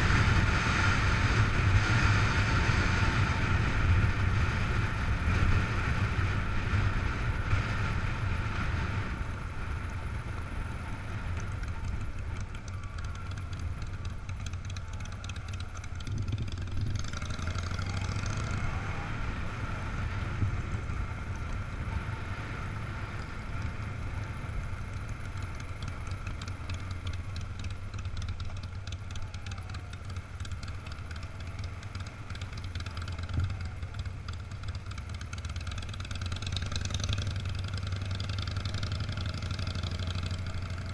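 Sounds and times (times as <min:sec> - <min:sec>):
vehicle passing or revving: 0:00.0 - 0:34.1
car and motorcycle engines idling: 0:00.0 - 0:40.9.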